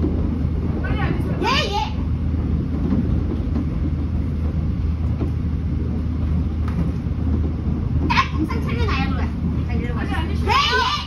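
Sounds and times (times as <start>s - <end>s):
subway train rumble: 0.0s - 11.0s.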